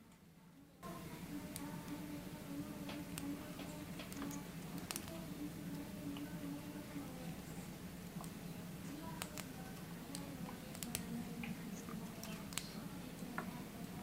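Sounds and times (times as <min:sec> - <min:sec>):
faint steady low hum: 0:00.0 - 0:14.0.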